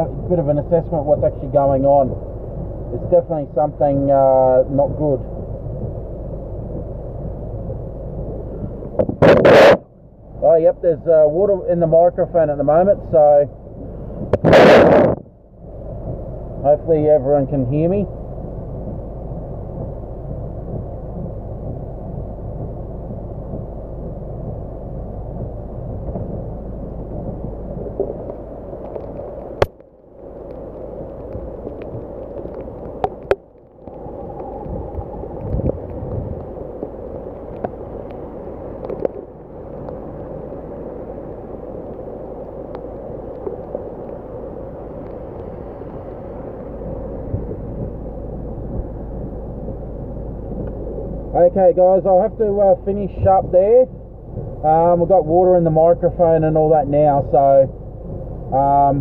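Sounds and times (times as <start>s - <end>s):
heavy rain on a car: 0.0s - 59.0s.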